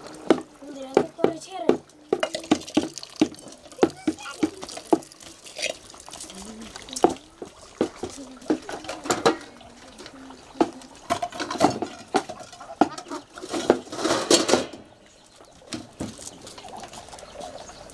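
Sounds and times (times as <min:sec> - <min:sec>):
metal pots clattering: 0:00.0 - 0:17.9.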